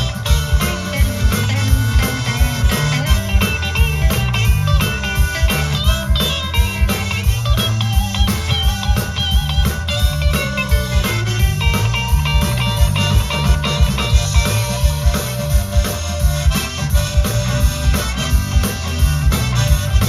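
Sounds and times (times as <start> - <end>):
electric guitar: 0.0 - 20.0
rock band music: 0.0 - 20.0
steady drum beat: 0.0 - 20.0.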